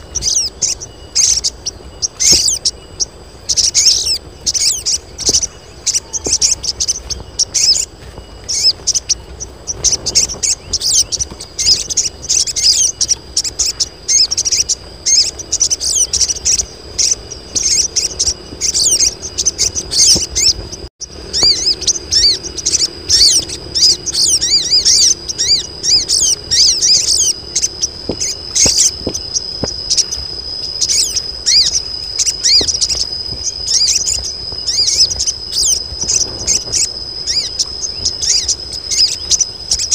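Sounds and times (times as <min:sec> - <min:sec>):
birds chattering and chirping: 0:00.0 - 0:39.9
steady high buzz: 0:00.0 - 0:39.9.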